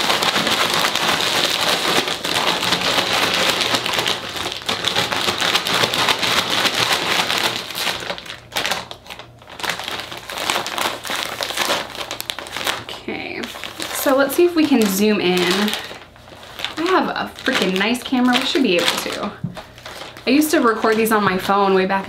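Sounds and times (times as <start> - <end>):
dry flakes rustling inside bag: 0.0 - 21.9
foil bag crinkling shaken: 0.0 - 22.0.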